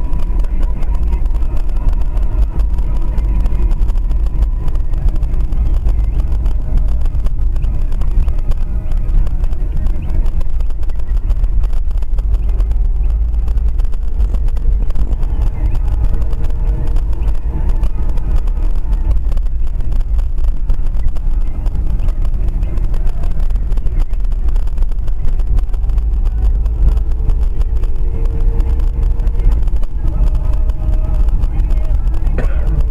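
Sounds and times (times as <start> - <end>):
car cabin low rumble: 0.0 - 32.9.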